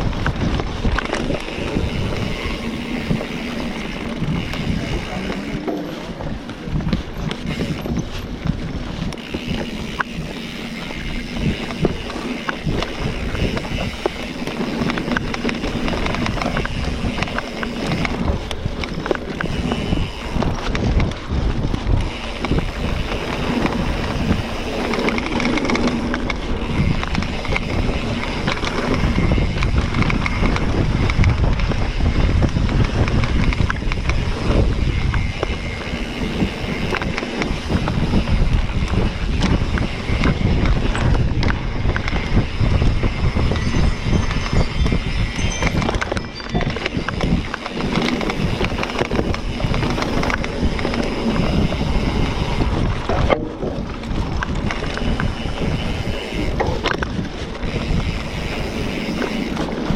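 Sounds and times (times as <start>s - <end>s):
bike chain and parts rattling: 0.0s - 59.9s
bike tyres rolling on dirt: 0.0s - 59.9s
wind buffeting microphone: 0.0s - 59.9s.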